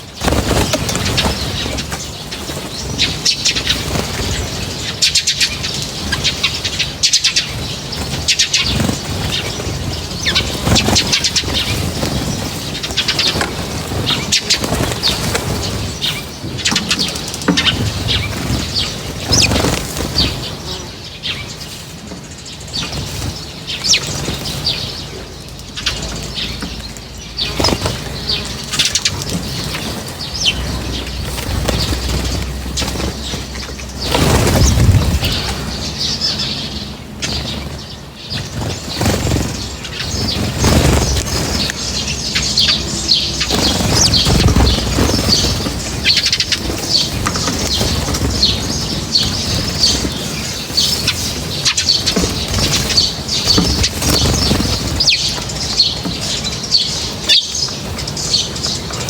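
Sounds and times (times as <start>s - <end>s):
small birds chirping: 0.0s - 59.0s
wings flapping and fluttering: 0.0s - 59.0s.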